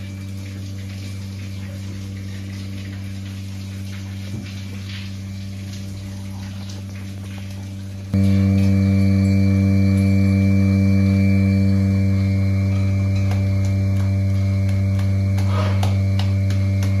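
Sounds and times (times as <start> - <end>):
electrical hum with whine: 0.0 - 17.0.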